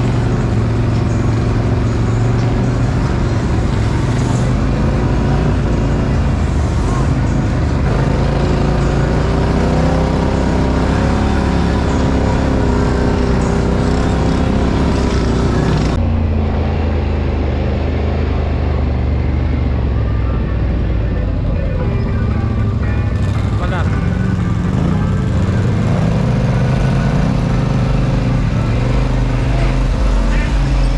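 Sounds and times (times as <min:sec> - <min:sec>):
off-road vehicle engines running: 0:00.0 - 0:30.9.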